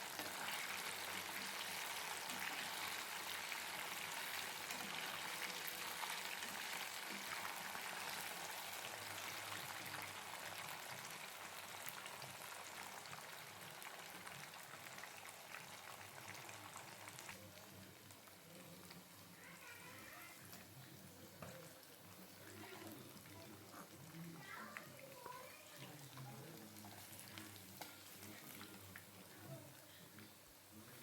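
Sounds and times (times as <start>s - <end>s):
food sizzling in hot oil: 0.0s - 29.8s.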